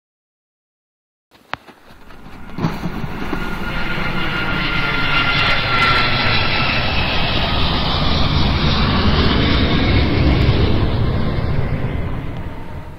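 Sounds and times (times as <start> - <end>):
faint engine whine: 1.4 - 12.9
jet engine roar: 1.8 - 12.9.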